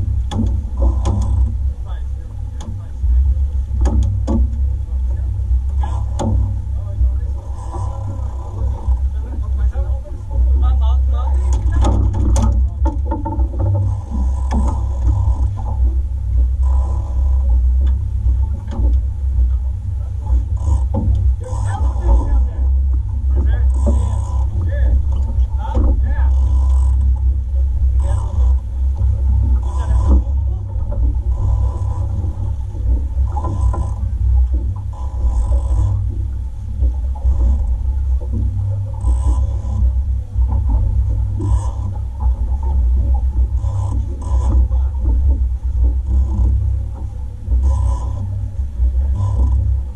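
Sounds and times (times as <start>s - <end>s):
faint steady hum: 0.0s - 49.9s
outboard motor rumbling: 0.0s - 49.9s.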